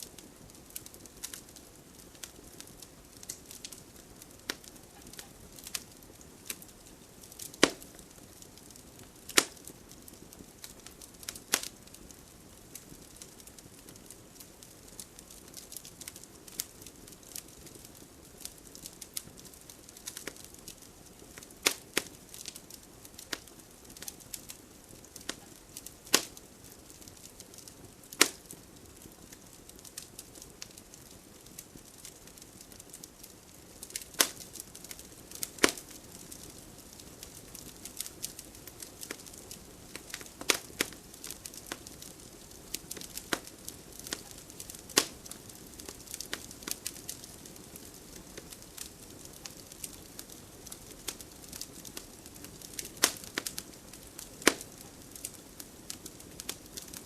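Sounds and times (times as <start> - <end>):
fire pops and snaps: 0.0 - 57.0
soft steady fire hiss: 0.0 - 57.0.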